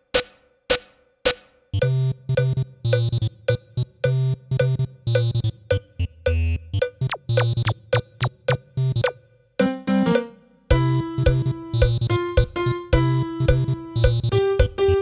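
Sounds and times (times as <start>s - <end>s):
staccato synthesizer and drum music: 0.0s - 15.0s.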